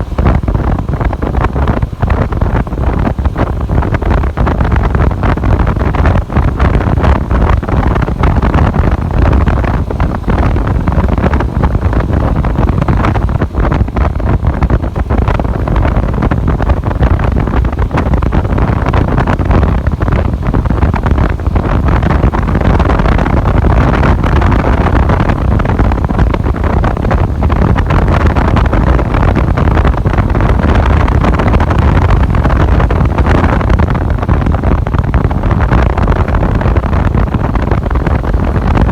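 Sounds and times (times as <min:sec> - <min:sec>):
road noise: 0:00.0 - 0:38.9
wind rushing over microphone: 0:00.0 - 0:38.9.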